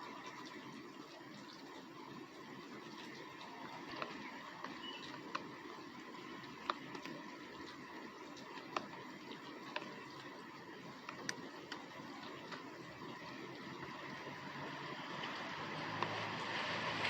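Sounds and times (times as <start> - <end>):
rain pattering: 0.0 - 17.0
raindrops ticking: 0.0 - 17.0.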